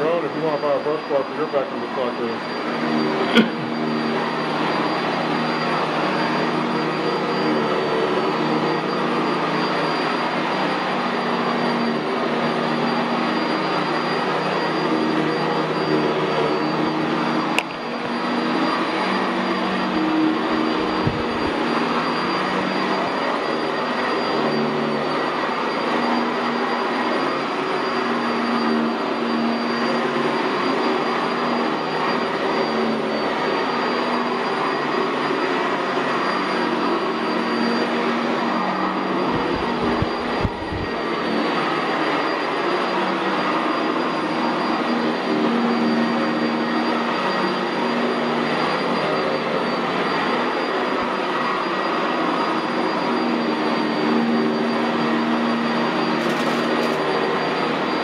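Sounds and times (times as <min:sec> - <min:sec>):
thin high whine: 0:00.0 - 0:58.0
vacuum cleaner running on carpet: 0:00.0 - 0:58.0.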